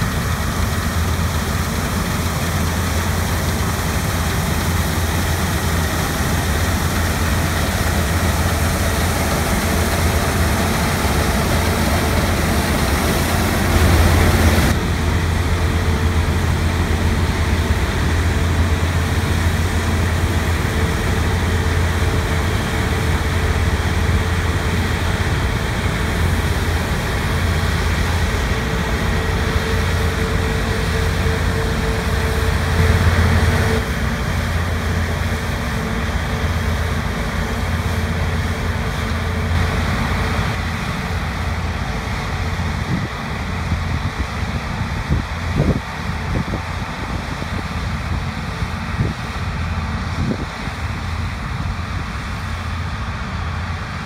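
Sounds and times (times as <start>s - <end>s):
diesel farm machine running: 0.0s - 54.0s
steady machine whine: 0.0s - 54.0s.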